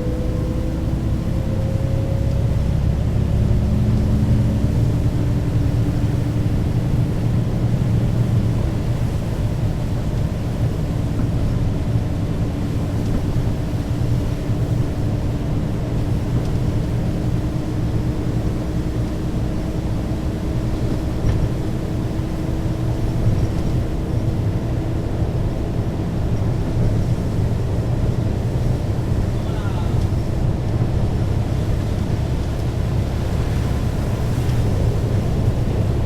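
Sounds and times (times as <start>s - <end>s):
bus engine rumble: 0.0s - 36.0s.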